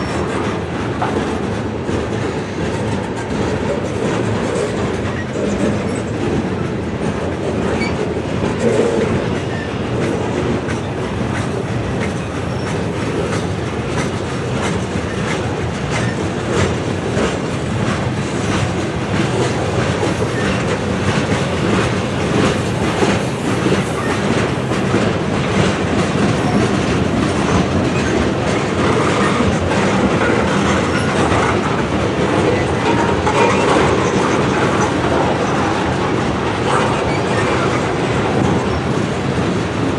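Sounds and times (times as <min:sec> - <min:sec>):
wheels clicking over rail joints: 0:00.0 - 0:39.1
freight train wheels rumbling on rails: 0:00.0 - 0:39.9.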